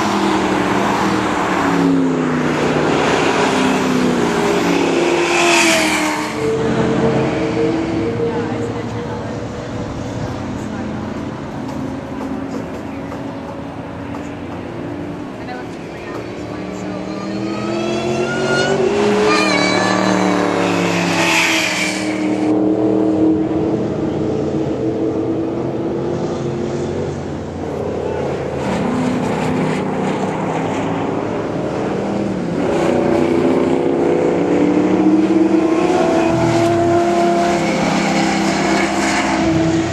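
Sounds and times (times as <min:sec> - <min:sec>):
race car engines passing by: 0:00.0 - 0:39.9.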